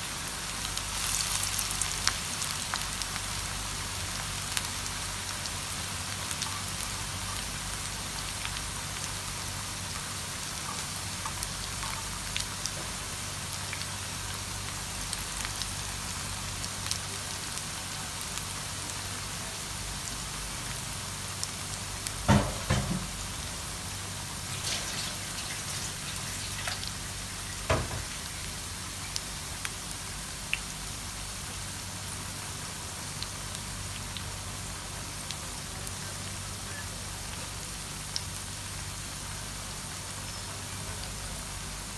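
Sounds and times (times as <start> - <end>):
deep-frying sizzle with crackles: 0.0 - 41.9.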